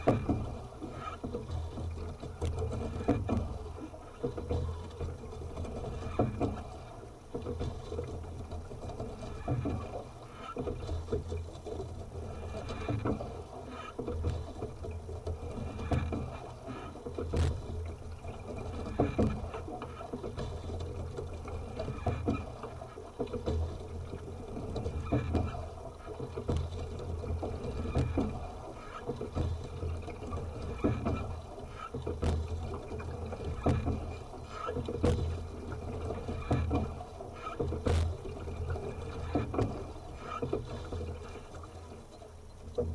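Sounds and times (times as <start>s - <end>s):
water along hull: 0.0s - 42.9s.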